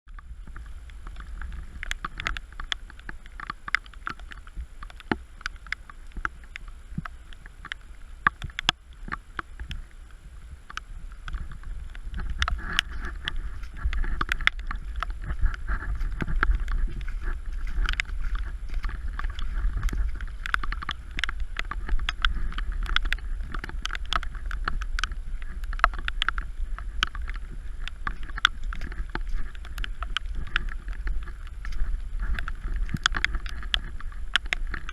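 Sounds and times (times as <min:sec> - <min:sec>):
heavy rain: 0:00.1 - 0:34.9
raindrops striking surfaces: 0:00.1 - 0:34.9
wind buffeting microphone: 0:00.1 - 0:34.9.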